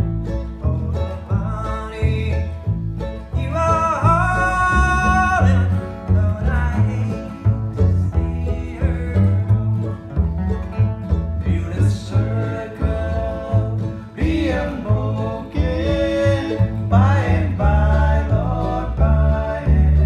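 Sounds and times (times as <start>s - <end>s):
bluegrass band playing: 0.0s - 20.0s
rhythmic bass line: 0.0s - 20.0s.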